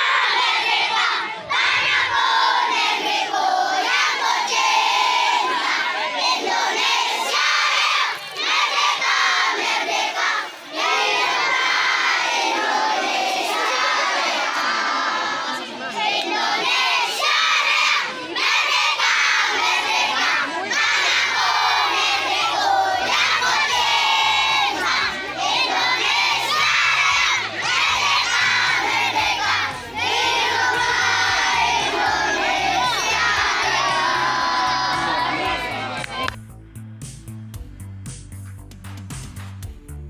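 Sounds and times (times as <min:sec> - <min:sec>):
children singing loudly: 0:00.0 - 0:36.4.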